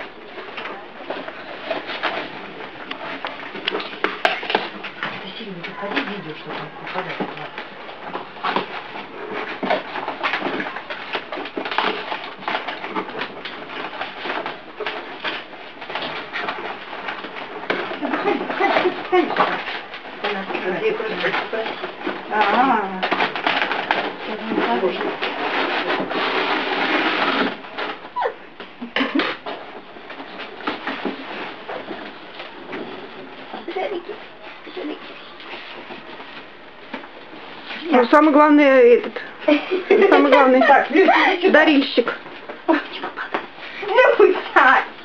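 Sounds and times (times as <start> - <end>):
wrapping paper crinkling: 0.0 - 45.0.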